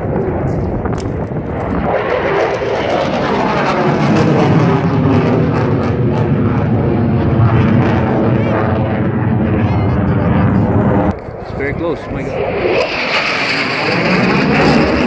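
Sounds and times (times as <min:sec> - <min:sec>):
airplane engine passing overhead: 0:00.0 - 0:15.0.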